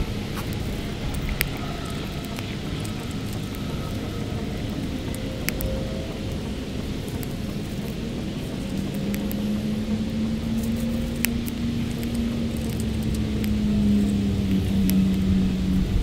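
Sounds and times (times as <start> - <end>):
low engine drone: 0.0 - 16.0
low rumble: 0.0 - 16.0
wood fire crackling: 0.0 - 16.0.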